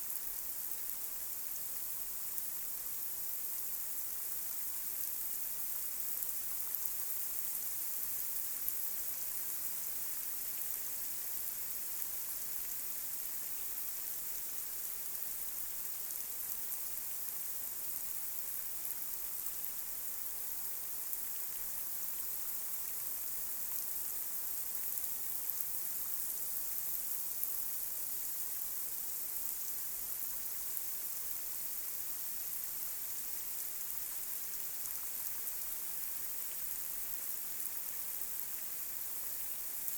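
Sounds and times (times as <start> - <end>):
light rain hissing: 0.0 - 39.9.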